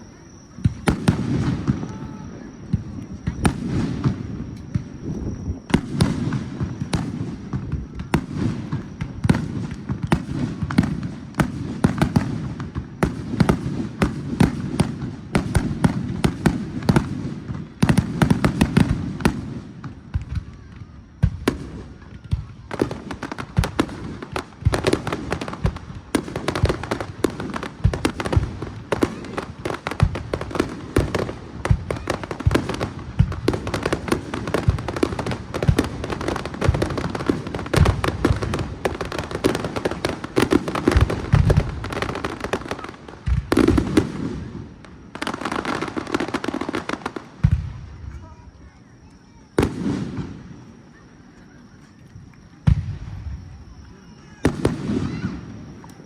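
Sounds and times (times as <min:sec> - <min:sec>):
fireworks bursting and crackling: 0:00.0 - 0:56.0.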